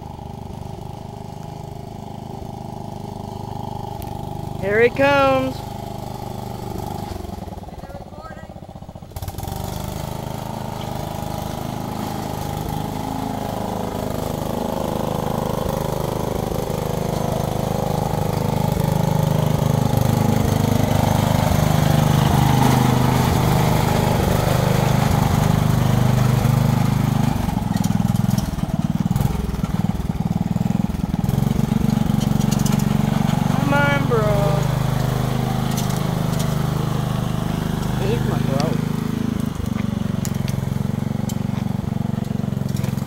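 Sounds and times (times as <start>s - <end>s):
riding lawnmower engine running: 0.0s - 43.0s.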